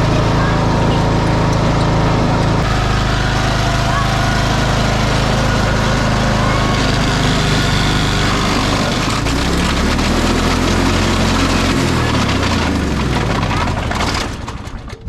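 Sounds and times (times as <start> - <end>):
engine knocking clatter: 0.0 - 15.0
mower engine running: 0.0 - 15.0.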